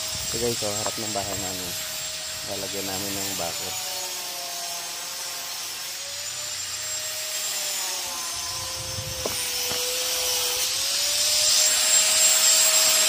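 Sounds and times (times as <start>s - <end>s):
power tool cutting steel: 0.0s - 13.0s.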